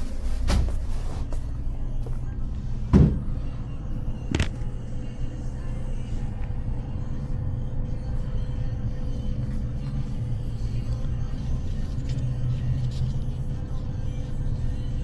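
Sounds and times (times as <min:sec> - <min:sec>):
low hum of shop interior: 0:00.0 - 0:15.0.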